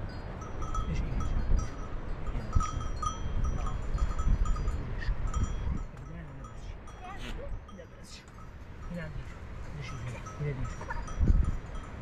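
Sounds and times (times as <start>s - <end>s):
animal bells clinking: 0.0s - 12.0s.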